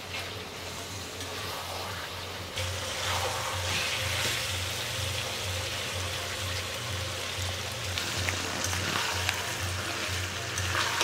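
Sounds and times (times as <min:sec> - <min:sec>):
curry sizzling in a pan: 0:00.0 - 0:11.0.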